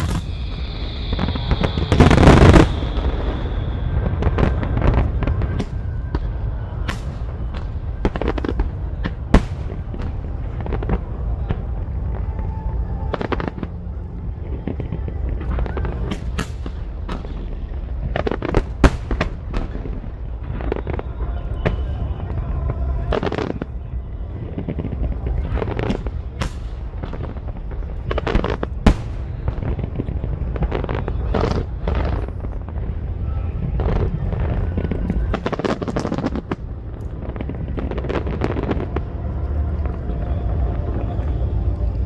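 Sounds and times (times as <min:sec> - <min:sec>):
fireworks exploding: 0:00.0 - 0:42.0.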